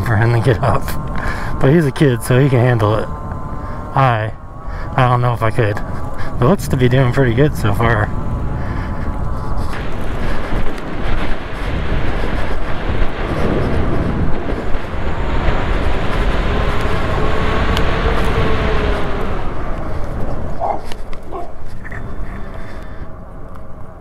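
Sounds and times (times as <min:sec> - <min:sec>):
faint whine: 0:00.0 - 0:24.0
wind buffeting microphone: 0:00.0 - 0:24.0.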